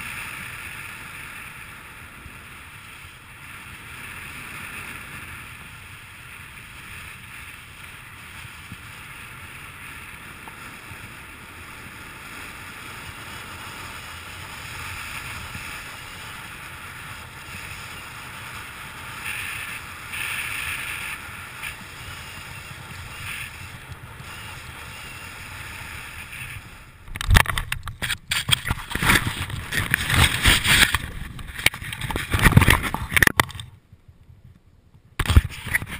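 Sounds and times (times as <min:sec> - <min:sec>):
wind over microphone: 0:00.0 - 0:35.9.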